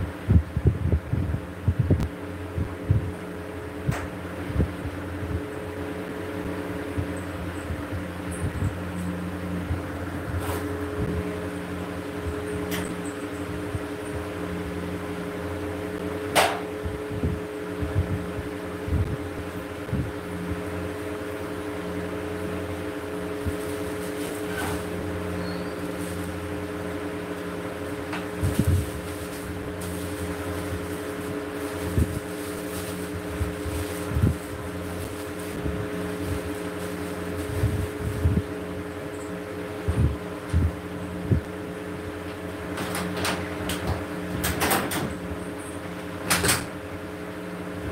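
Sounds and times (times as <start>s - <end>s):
ceiling fan motor hum: 0.0s - 47.9s.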